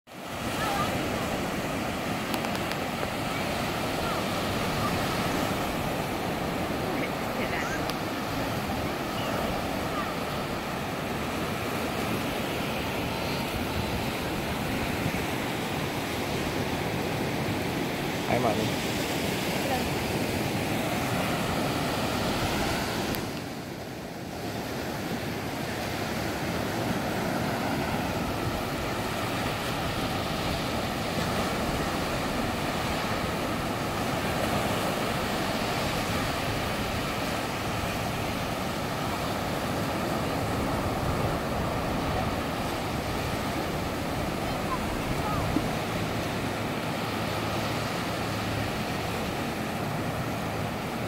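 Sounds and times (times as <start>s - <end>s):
surf breaking on sandy beach: 0.1s - 51.0s.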